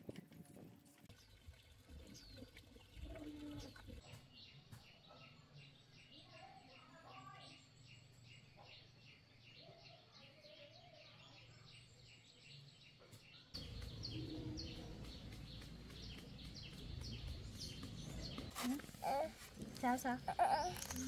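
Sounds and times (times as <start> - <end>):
small bird chirping: 2.0 - 21.0.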